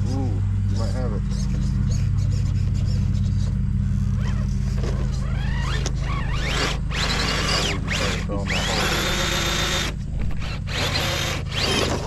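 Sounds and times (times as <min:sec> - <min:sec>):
electric motor whining: 0:00.0 - 0:12.0
steady low hum: 0:00.0 - 0:12.0.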